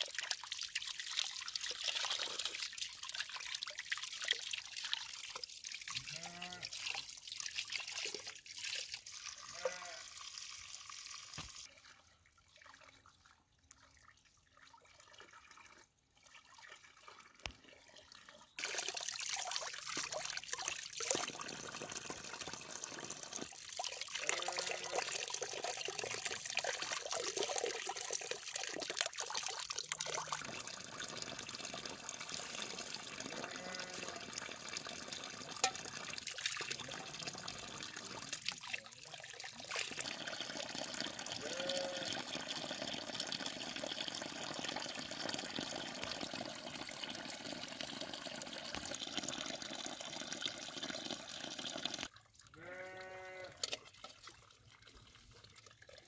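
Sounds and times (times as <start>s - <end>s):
water pouring into stream: 0.0s - 56.0s.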